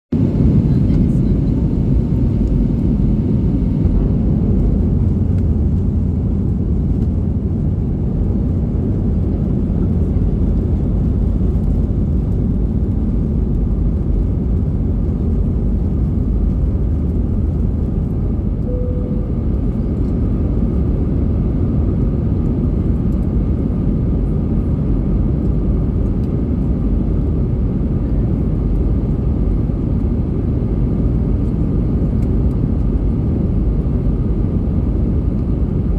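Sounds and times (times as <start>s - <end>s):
airliner engine rumble: 0.1s - 35.9s.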